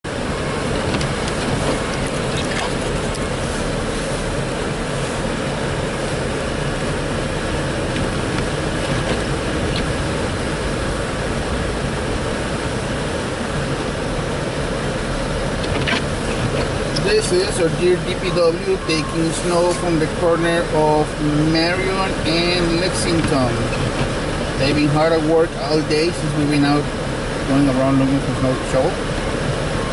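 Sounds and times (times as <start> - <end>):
heavy machinery engine rumble: 0.0 - 29.9.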